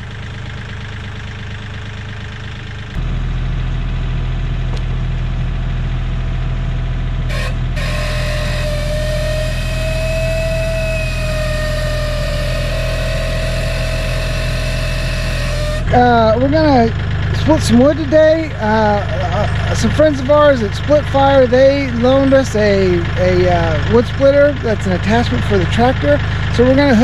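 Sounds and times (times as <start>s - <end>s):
log splitter whine: 0.0s - 27.0s
tractor diesel engine running: 0.0s - 27.0s.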